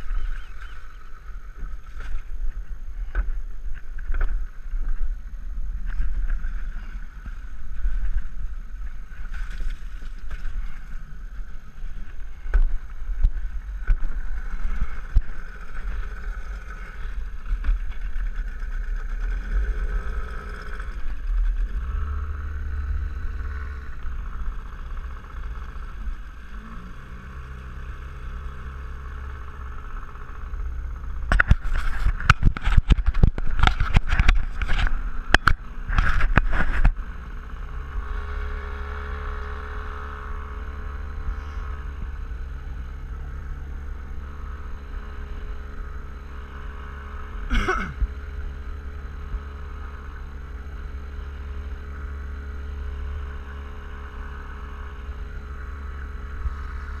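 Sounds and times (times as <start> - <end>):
outboard motor running: 0.0 - 57.0
wind: 0.0 - 57.0.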